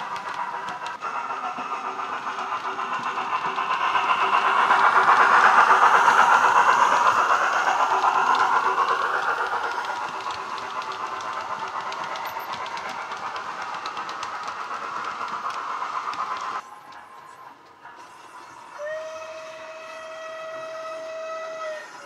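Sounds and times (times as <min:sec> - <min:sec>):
model locomotive sound through speaker: 0:00.0 - 0:22.0
model train wheels ticking on track: 0:00.0 - 0:22.0.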